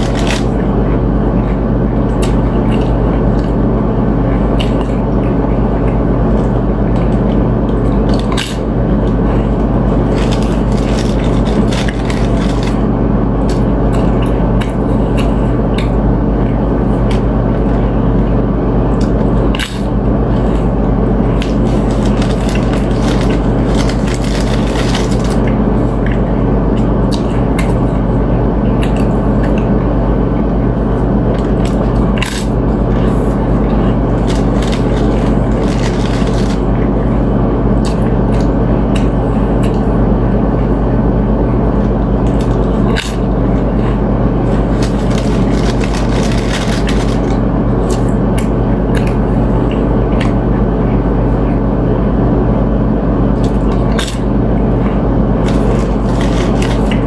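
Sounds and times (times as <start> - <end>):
crunching chips and chewing: 0.0 - 18.3, 18.9 - 29.8, 30.8 - 40.0, 41.7 - 50.5, 53.4 - 57.0
steady low hum: 0.0 - 57.0.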